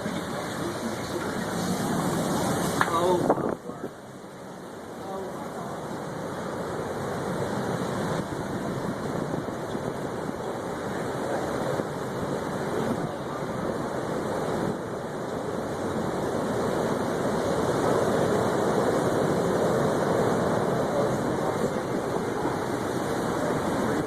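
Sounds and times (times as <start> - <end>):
tornado wind roaring: 0.0 - 24.0.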